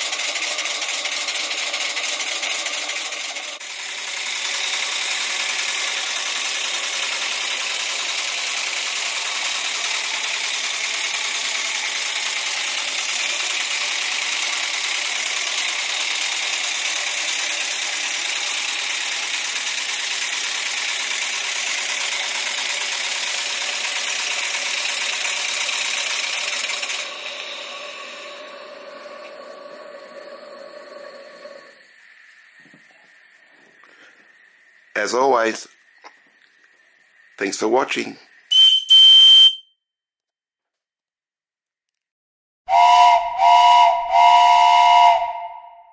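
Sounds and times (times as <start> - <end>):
model steam engine running: 0.0 - 35.7, 42.7 - 45.5.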